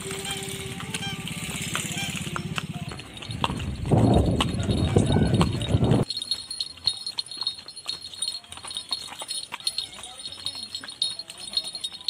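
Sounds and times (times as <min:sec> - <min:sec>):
horse hooves clip-clopping on pavement: 0:00.0 - 0:12.0.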